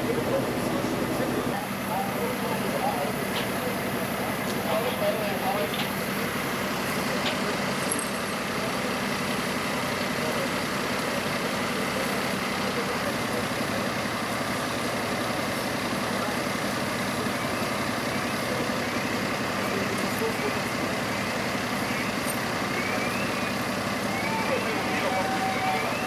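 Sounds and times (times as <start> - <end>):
fire engine idling: 0.0 - 26.0.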